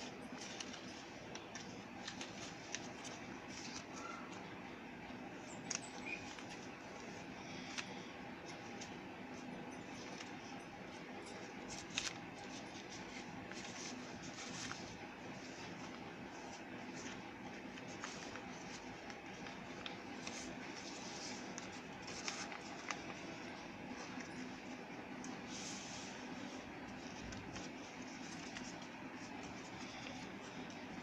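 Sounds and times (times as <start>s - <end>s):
faint steady hum: 0.0s - 31.0s
paper rustling and creasing: 0.0s - 31.0s.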